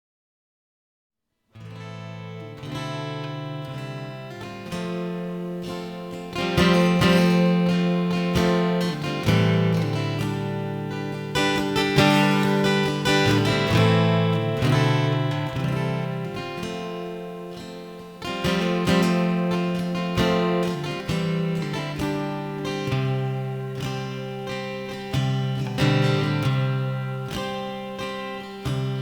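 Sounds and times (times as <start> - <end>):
acoustic guitar strumming chords: 1.6 - 29.0.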